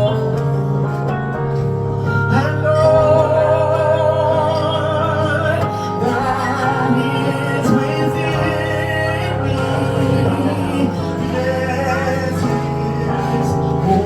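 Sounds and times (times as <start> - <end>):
sustained instrumental chords: 0.0 - 14.0
person singing with vibrato: 2.0 - 14.0.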